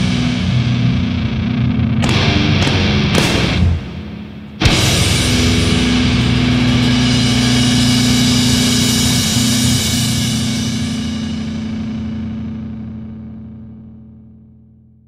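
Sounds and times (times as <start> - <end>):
distorted guitar chord ringing: 0.0 - 14.9.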